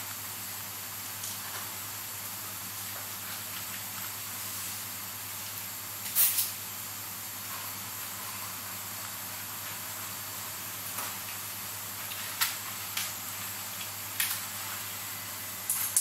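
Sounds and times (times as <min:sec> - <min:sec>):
steady hiss and low hum: 0:00.0 - 0:16.0.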